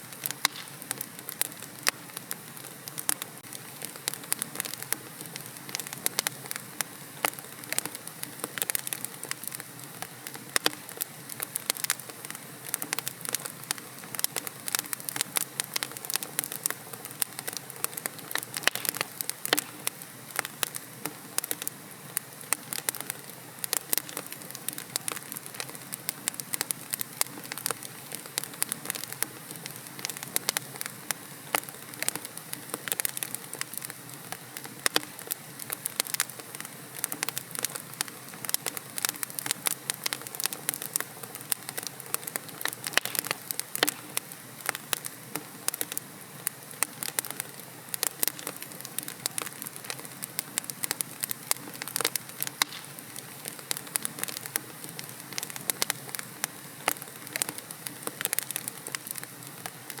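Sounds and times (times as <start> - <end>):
fire crackling and popping: 0.0 - 60.0
fire hissing: 0.0 - 60.0.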